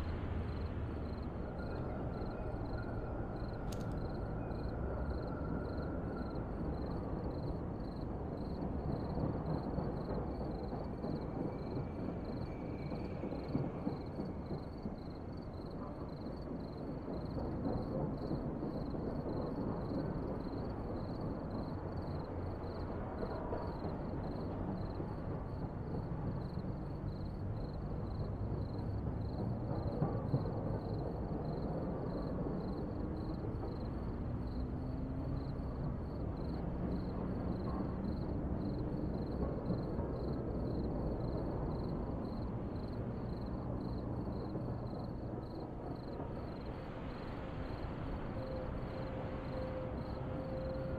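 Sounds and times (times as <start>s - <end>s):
distant traffic rumble: 0.0s - 11.5s, 16.3s - 50.9s.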